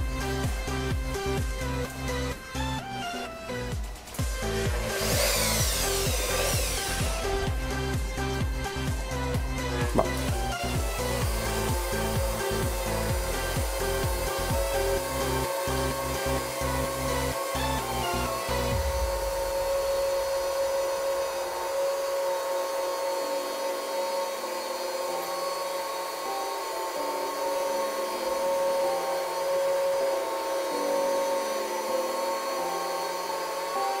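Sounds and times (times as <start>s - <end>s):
rotary polisher motor whine: 0.0s - 34.0s.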